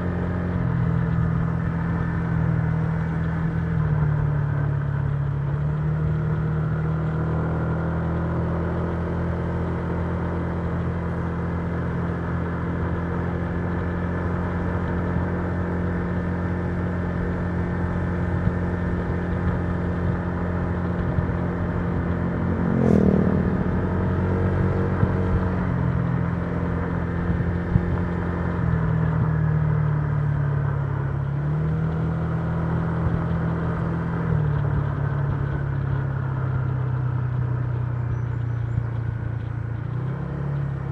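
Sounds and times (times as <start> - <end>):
scooter engine cruising: 0.0 - 40.9.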